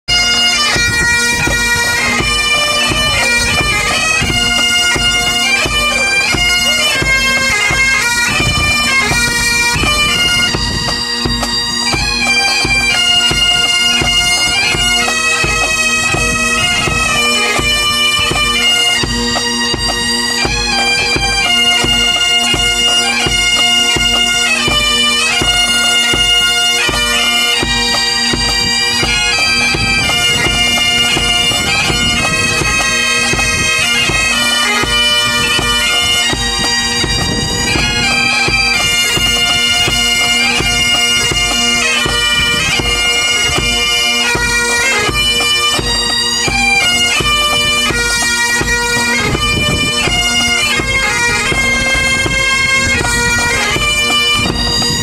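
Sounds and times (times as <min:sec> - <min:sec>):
bagpipe drones: 0:00.0 - 0:55.0
bagpipes playing a tune: 0:00.0 - 0:55.0.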